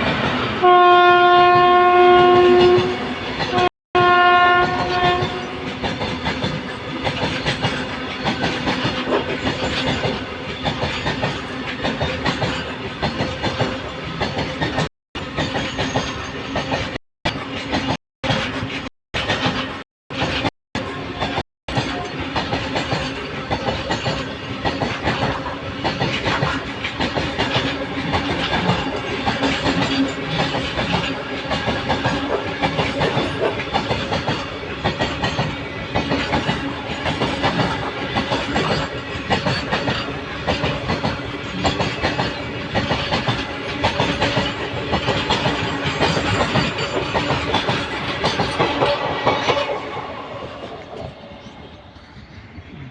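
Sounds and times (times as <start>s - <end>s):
train wheels clattering on rails: 4.4s - 52.9s.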